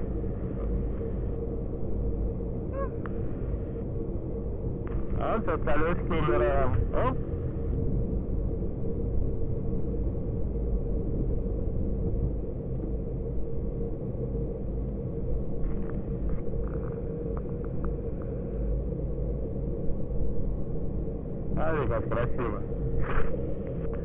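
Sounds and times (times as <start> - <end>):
jet engine rumble: 0.0 - 24.0.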